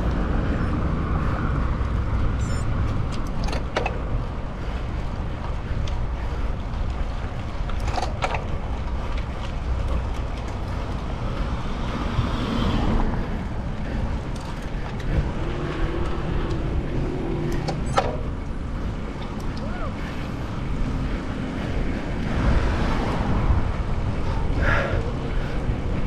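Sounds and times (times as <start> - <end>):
wind rush on microphone: 0.0 - 26.0.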